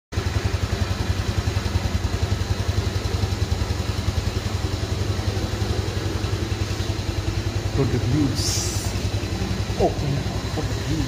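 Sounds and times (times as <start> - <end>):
motorcycle engine idling: 0.1 - 11.0.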